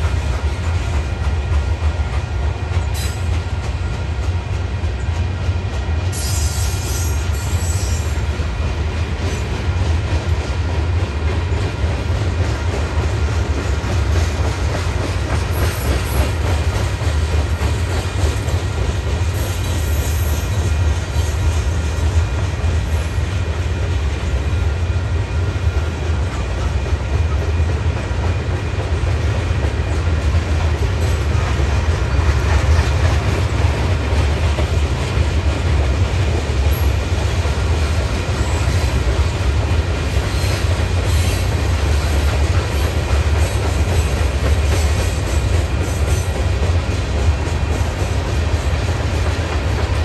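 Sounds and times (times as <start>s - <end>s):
steel wheels clattering on rails: 0.0s - 50.0s.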